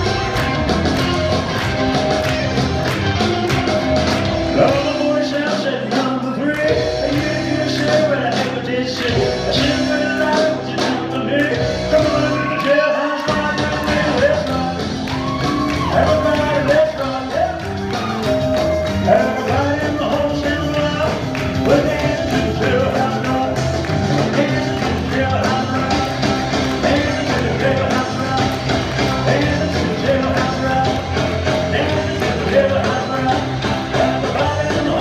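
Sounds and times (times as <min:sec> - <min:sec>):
live rock band playing: 0:00.0 - 0:35.0
person singing: 0:04.0 - 0:35.0.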